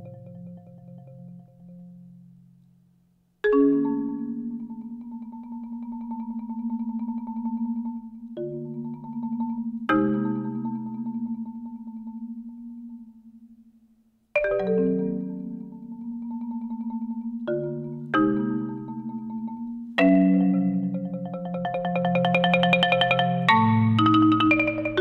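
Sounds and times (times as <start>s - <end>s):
marimba rolled chords: 0.0s - 2.0s, 3.5s - 13.1s, 14.4s - 25.0s.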